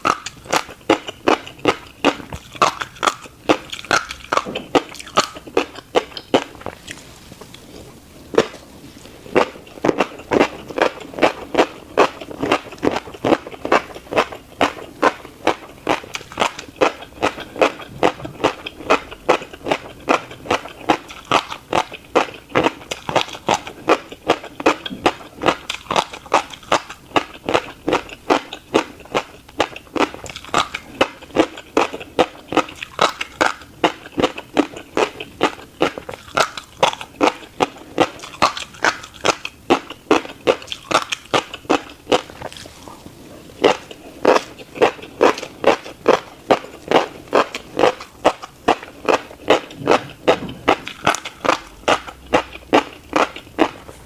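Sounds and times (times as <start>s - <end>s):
crunchy seed chewing: 0.0s - 54.0s.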